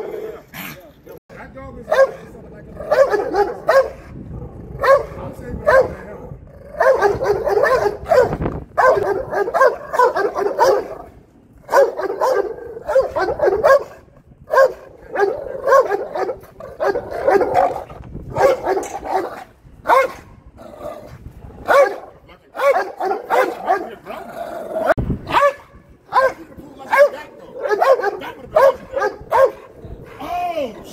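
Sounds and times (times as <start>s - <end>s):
dogs barking: 1.8s - 20.3s, 21.6s - 30.2s.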